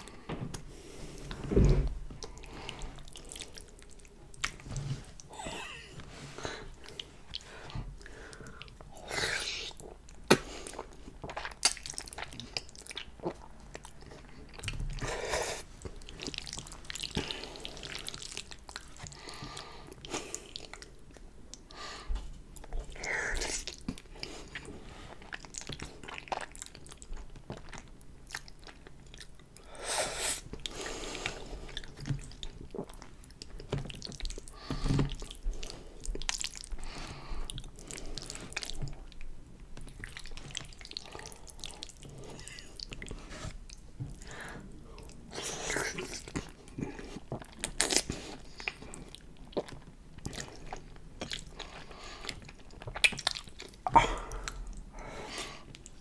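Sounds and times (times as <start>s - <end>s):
wet chewing and smacking: 2.1s - 5.3s, 6.0s - 29.7s, 30.4s - 56.0s.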